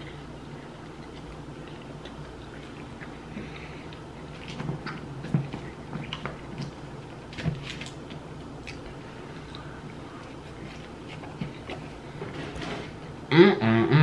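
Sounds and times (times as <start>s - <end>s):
close chewing: 0.0s - 12.2s.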